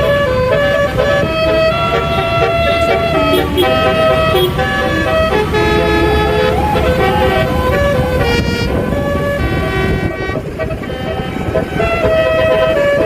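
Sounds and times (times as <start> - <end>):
bus horn playing a tune: 0.0 - 13.0
vehicle low rumble: 0.0 - 13.0.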